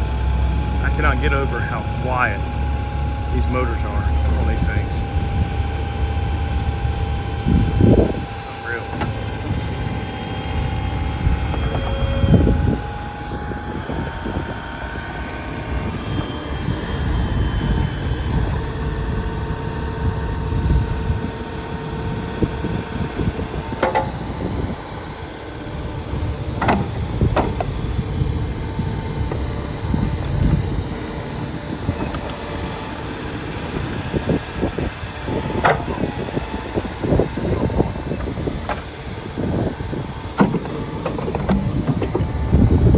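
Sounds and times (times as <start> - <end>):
diesel engine rumbling: 0.0 - 42.9
faint whining tones: 0.0 - 42.9.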